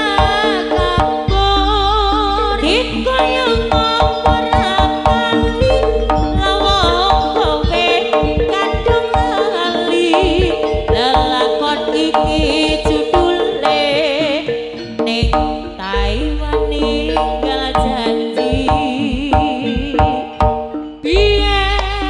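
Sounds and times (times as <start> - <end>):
rapid hand-drum strokes: 0.0 - 1.9, 2.6 - 20.8
struck metallophone notes: 0.0 - 22.0
wavering trilling melody: 0.0 - 22.0.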